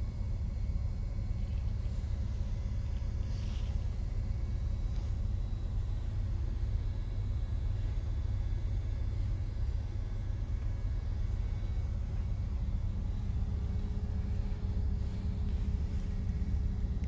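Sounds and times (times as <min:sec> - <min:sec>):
faint steady tone: 0:00.0 - 0:17.0
diesel train rumble: 0:01.4 - 0:17.0.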